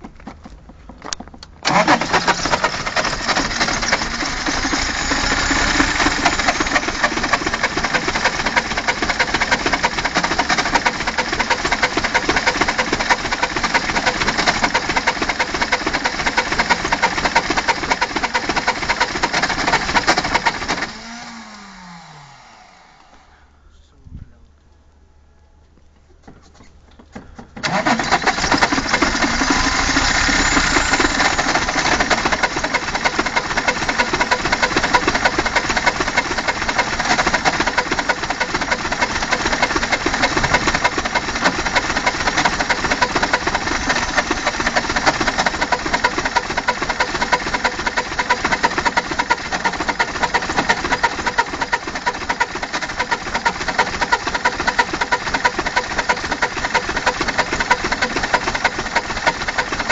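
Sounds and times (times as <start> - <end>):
diesel engine cranking and running: 0.0 - 23.5, 27.0 - 59.9.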